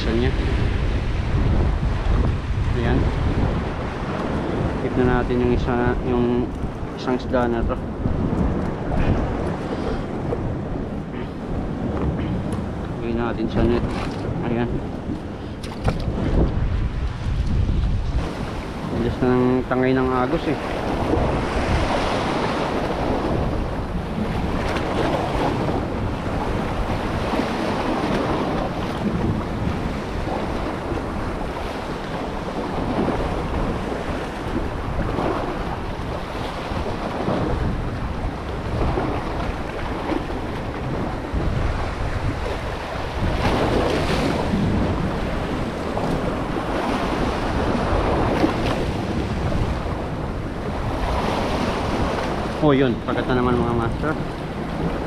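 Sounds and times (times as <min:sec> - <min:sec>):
sea surf: 0:00.0 - 0:55.0
wind buffeting microphone: 0:00.0 - 0:55.0.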